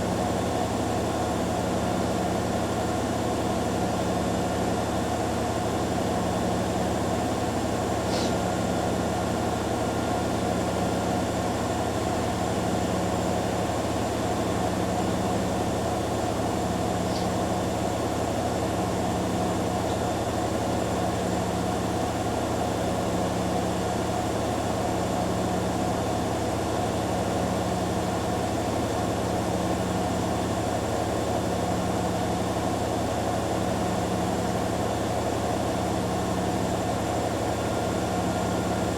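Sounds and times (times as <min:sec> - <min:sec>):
washing machines spinning: 0:00.0 - 0:38.9.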